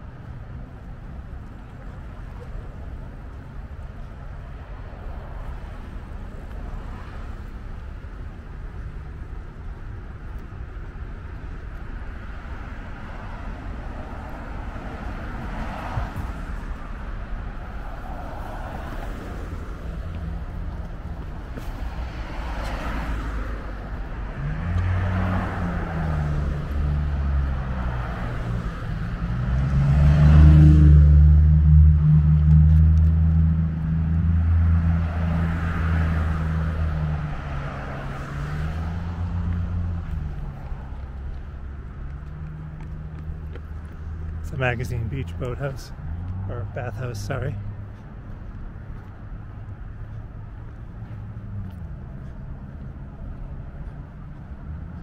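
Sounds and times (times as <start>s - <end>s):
cars swishing past: 1.2s - 8.4s, 11.4s - 55.0s.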